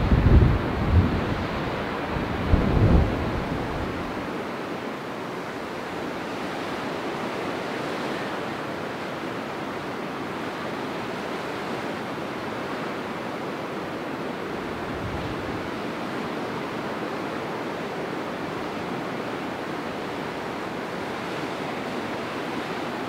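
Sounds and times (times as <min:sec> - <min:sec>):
waves breaking on a beach: 0:00.0 - 0:23.0
wind: 0:00.0 - 0:23.0.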